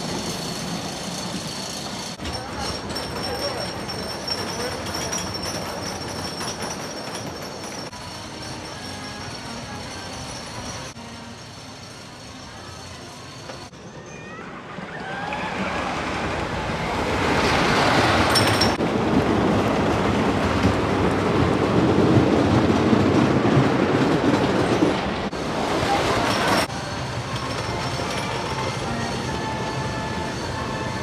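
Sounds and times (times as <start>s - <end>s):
roller coaster rumbling clatter: 0.0s - 12.1s, 12.8s - 29.6s.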